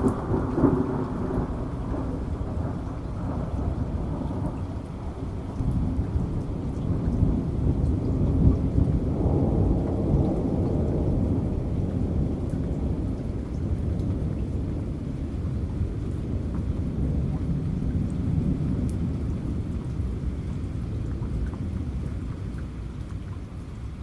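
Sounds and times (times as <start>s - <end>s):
rolling thunder: 0.0s - 22.6s
rain: 0.0s - 24.0s.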